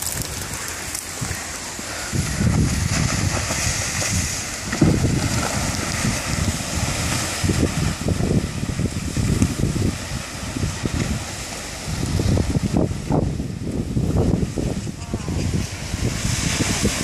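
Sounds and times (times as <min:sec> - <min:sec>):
river ice hissing: 0:00.0 - 0:13.7, 0:14.4 - 0:17.0
wind buffeting the microphone: 0:00.0 - 0:17.0.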